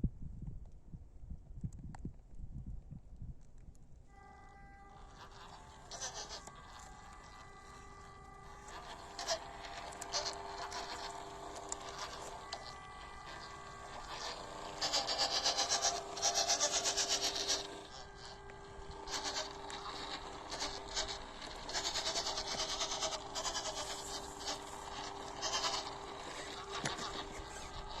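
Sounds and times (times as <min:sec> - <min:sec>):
toy truck motor whine: 0:04.1 - 0:28.0
fast rhythmic scraping: 0:04.8 - 0:28.0.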